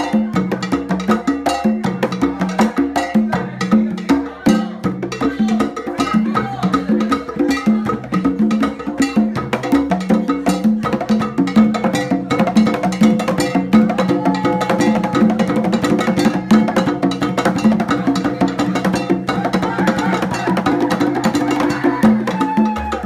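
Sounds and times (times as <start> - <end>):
live band playing rumba music: 0.0 - 23.0.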